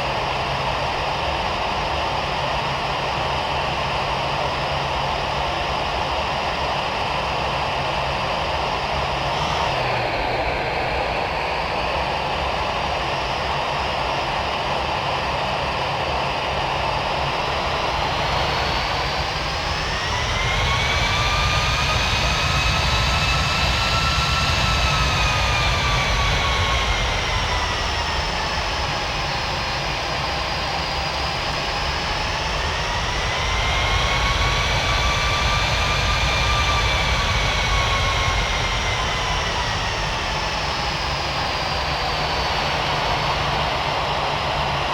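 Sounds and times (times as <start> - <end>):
jet engine rumble and hiss: 0.0 - 44.9
jet engine whine: 0.0 - 44.9.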